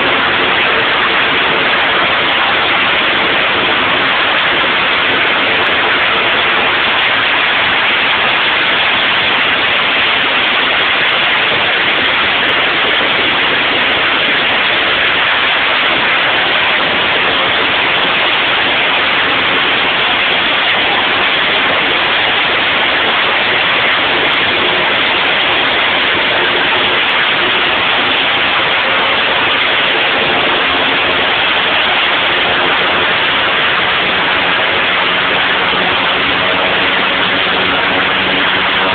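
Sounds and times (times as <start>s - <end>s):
propeller wind buffeting microphone: 0.0s - 38.9s
turboprop engine roaring: 0.0s - 38.9s.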